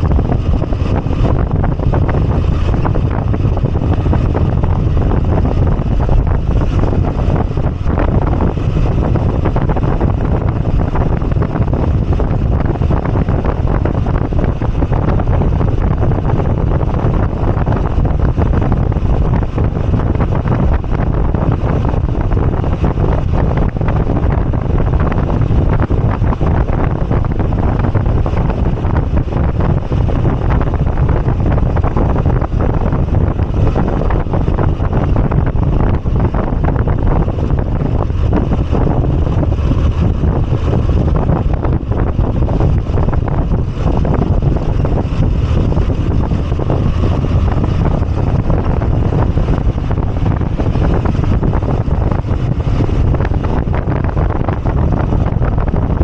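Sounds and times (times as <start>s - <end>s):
motorcycle engine running: 0.0s - 56.0s
road noise: 0.0s - 56.0s
wind rushing over microphone: 0.0s - 56.0s.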